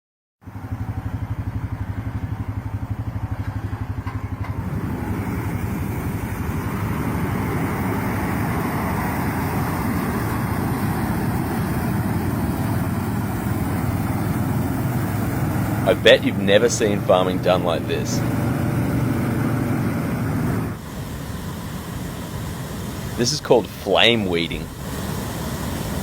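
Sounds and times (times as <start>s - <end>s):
engine running with pulsing beat: 0.4s - 26.0s.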